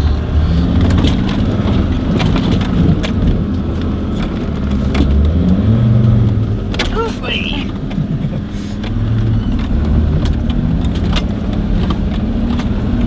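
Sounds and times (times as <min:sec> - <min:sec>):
off-road vehicle engine under load: 0:00.0 - 0:13.0
suspension knocks and clunks: 0:00.0 - 0:13.0.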